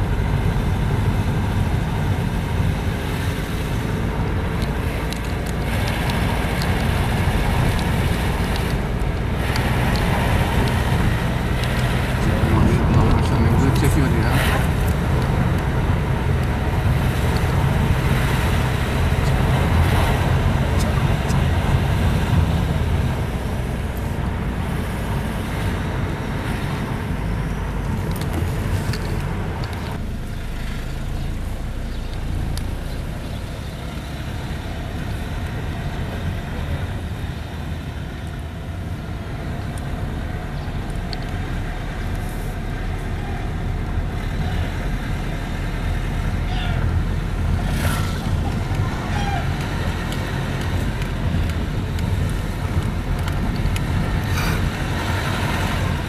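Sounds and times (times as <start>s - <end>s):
car engine and tyres rumble: 0.0s - 56.0s.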